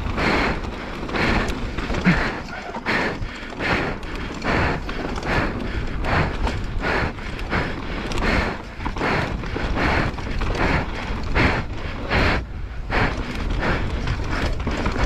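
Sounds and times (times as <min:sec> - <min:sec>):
bike tyres rumbling on dirt: 0:00.0 - 0:15.0.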